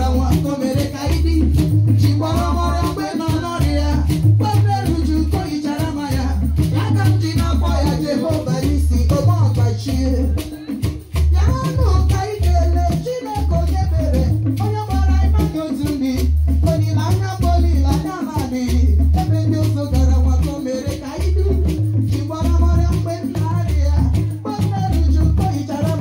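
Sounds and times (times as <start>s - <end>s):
rattling shakers: 0.0s - 26.0s
steady deep drum beat: 0.0s - 26.0s.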